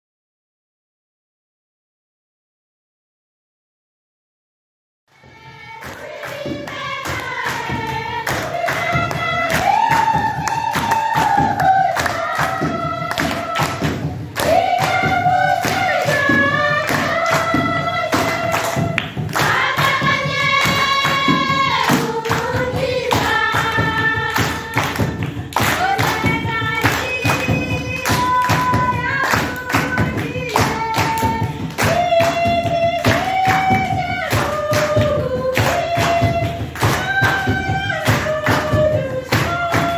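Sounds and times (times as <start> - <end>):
women and children singing: 5.1 - 39.9
hand-clapping: 5.6 - 39.9.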